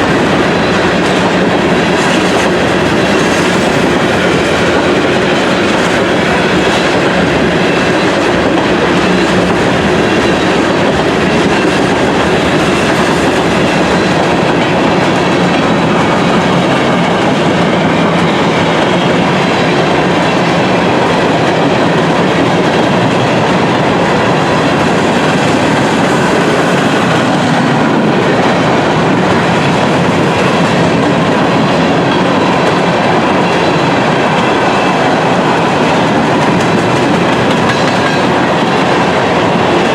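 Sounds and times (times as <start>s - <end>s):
train rolling over track: 0.0s - 39.9s.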